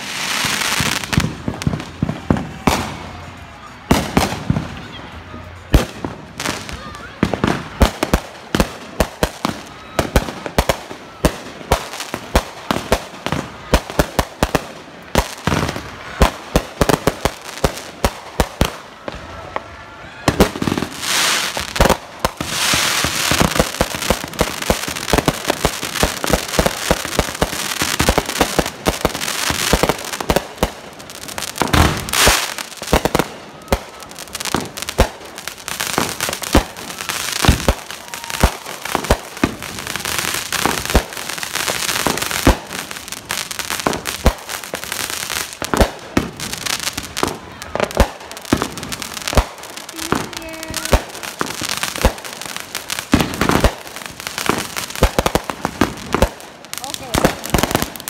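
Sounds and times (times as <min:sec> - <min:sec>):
fireworks bangs and pops: 0:00.0 - 0:05.0, 0:05.6 - 0:58.0
fountain firework hissing crackle: 0:00.0 - 0:58.0.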